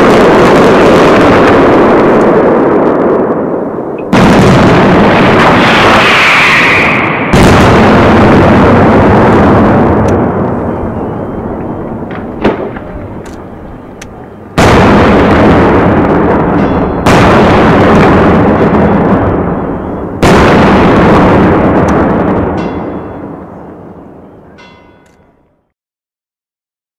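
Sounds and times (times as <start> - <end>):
rolling rumble: 0.0 - 25.4
fireworks bangs: 0.0 - 25.5
sharp crack: 0.0 - 25.5.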